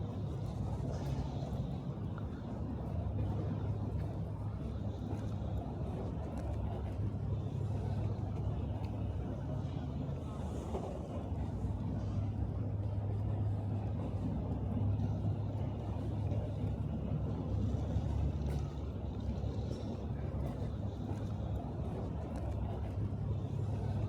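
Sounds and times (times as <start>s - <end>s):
city noise rumble: 0.0s - 24.0s
large engine droning: 0.0s - 24.0s.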